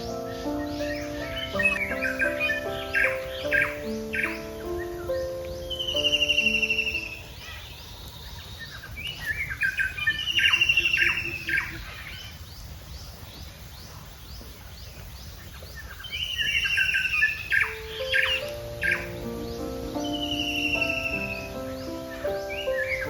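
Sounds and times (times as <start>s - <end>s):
low background hiss: 0.0s - 23.0s
small birds chirping: 0.0s - 23.0s.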